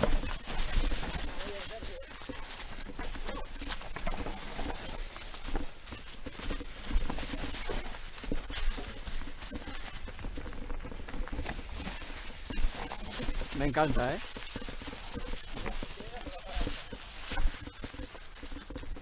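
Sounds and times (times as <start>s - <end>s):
bike clattering: 0.0s - 19.0s
bike tyres rattling over stones: 0.0s - 19.0s.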